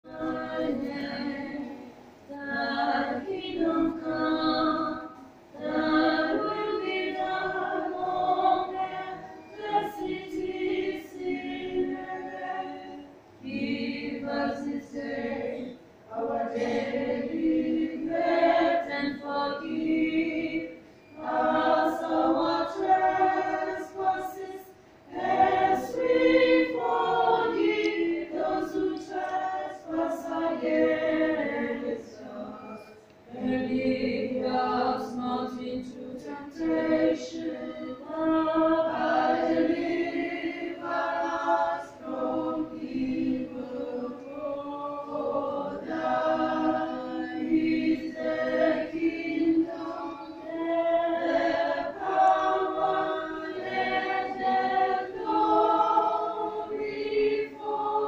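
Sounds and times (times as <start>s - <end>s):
group singing a cappella: 0.0s - 58.0s.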